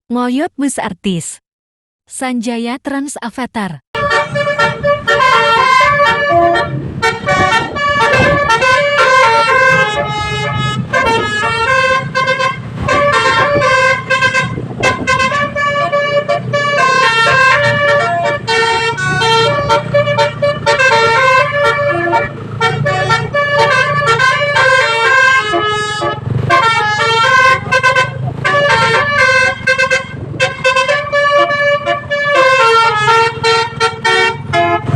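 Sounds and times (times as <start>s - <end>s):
musical air horn tune: 3.9s - 34.9s.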